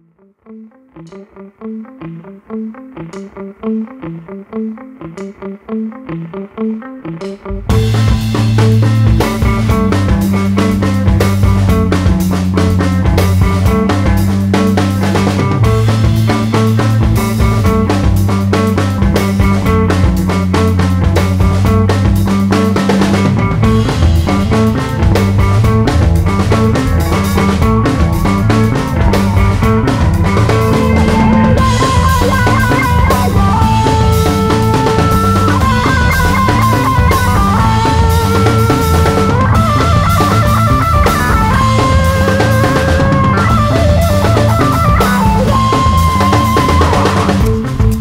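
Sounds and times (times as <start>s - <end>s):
background music with drum beat: 3.0s - 48.0s.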